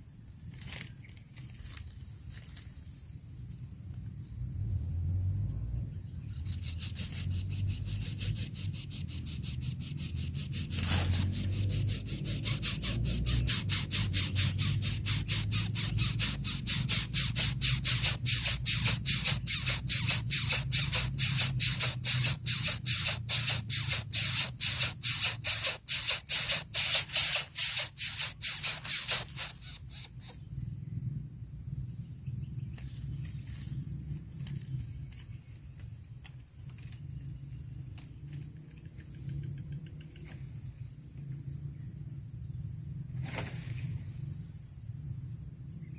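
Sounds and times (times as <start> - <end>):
cricket-like trill: 0.0 - 45.9
insect raspy pulses: 0.0 - 45.9.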